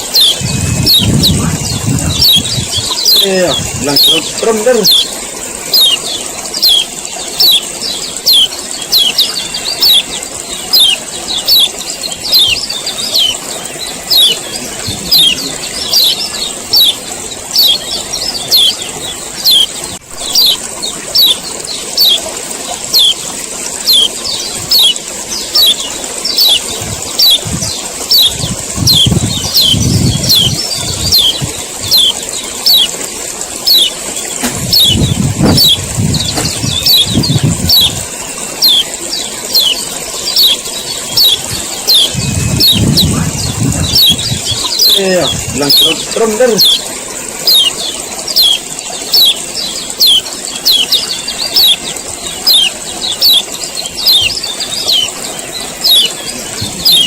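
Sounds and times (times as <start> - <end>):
bird chirping rapidly: 0.0 - 57.0.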